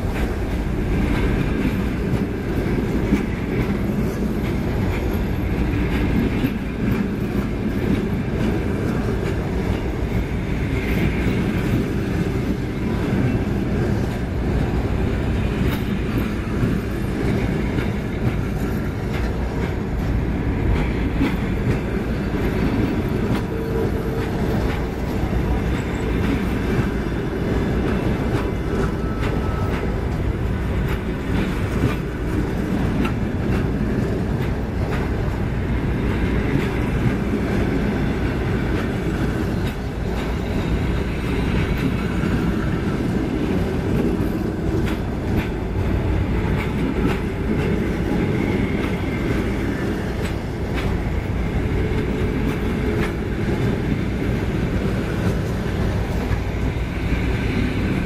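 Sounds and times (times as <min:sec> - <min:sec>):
train wheels rumbling on rails: 0:00.0 - 0:58.0
wheels clacking over rail joints: 0:00.0 - 0:58.0.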